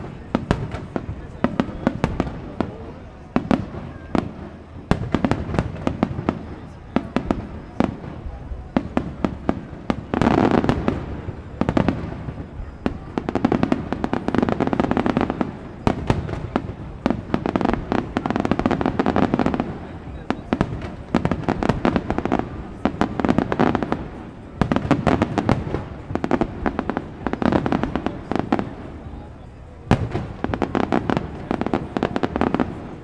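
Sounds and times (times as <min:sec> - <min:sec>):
fireworks bangs: 0:00.0 - 0:33.0
fireworks crackling: 0:00.0 - 0:33.0.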